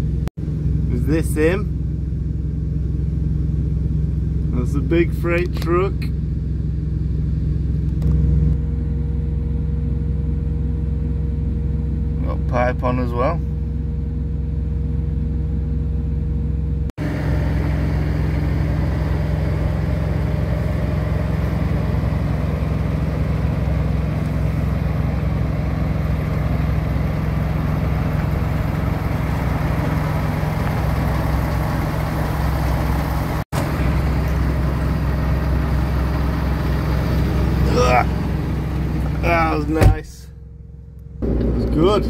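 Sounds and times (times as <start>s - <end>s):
diesel truck engines idling: 0.0s - 42.0s.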